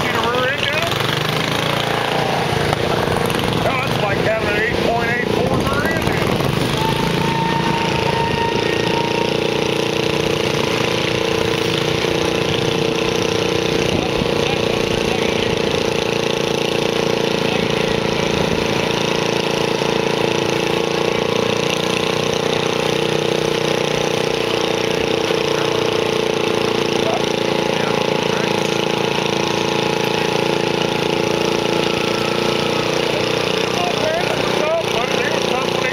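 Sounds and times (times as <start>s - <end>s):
small tractor engine idling: 0.0s - 35.9s.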